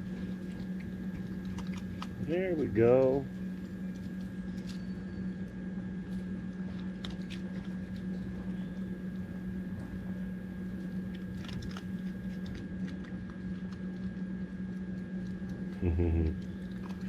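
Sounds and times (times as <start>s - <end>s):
animal crunching dry kibble: 0.0s - 17.0s
steady low hum: 0.0s - 17.0s.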